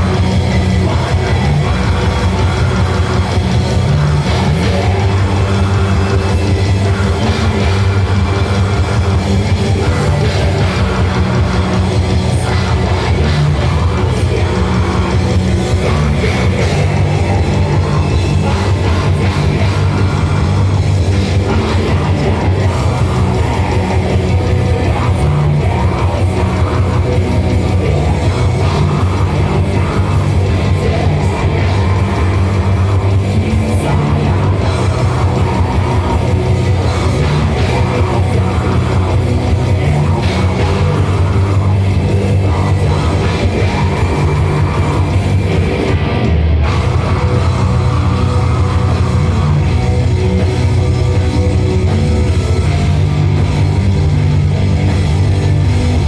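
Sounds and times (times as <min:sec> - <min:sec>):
drum kit: 0:00.0 - 0:56.0
electric guitars: 0:00.0 - 0:56.0
sustained bass notes: 0:00.0 - 0:56.0.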